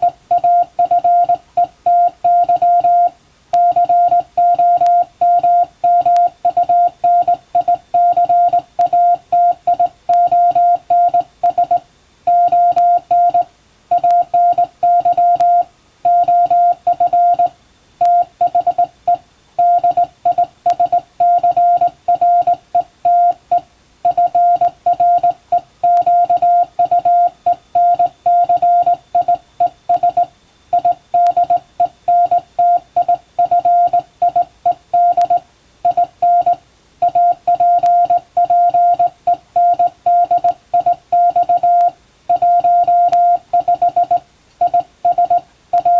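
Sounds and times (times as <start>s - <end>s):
morse code tone: 0.0s - 45.9s.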